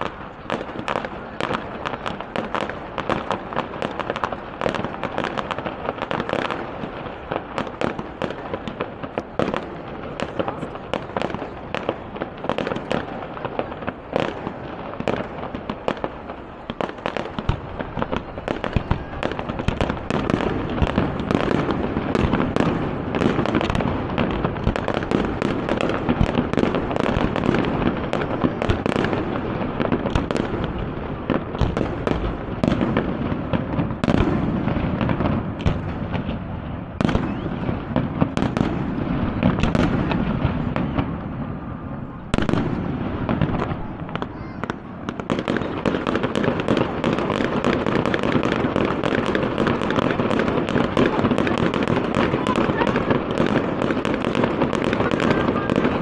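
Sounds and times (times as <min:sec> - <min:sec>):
fireworks cracking and bursting: 0:00.0 - 0:56.0.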